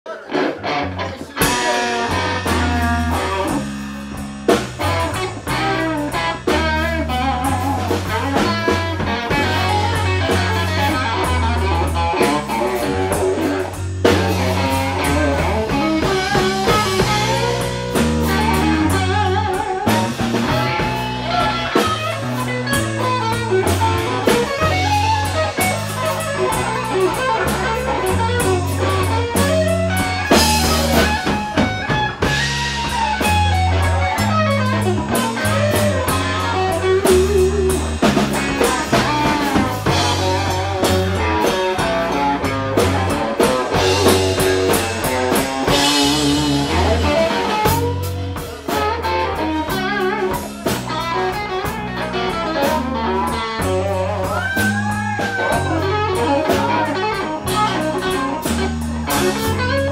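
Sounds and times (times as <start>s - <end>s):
drums: 0.1s - 59.9s
electric guitar lead: 0.1s - 59.9s
bass line: 0.5s - 59.9s.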